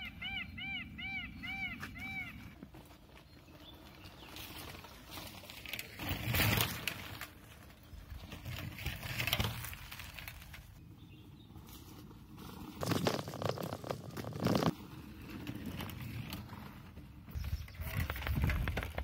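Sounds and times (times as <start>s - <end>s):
bike tyres crunching on dirt: 1.7s - 19.0s.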